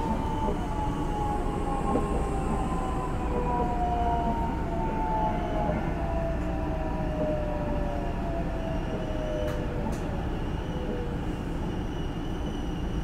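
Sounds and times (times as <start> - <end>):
electric train inverter whining: 0.0 - 13.0
wheels rumbling on rails: 0.0 - 13.0.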